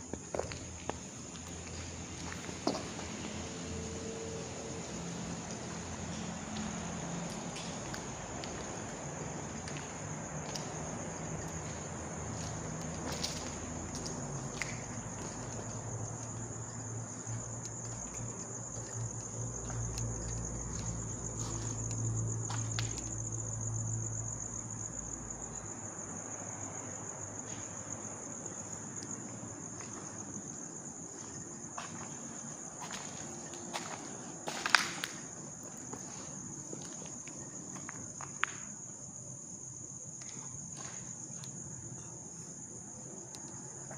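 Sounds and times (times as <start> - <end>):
crickets chirping: 0.0 - 43.9.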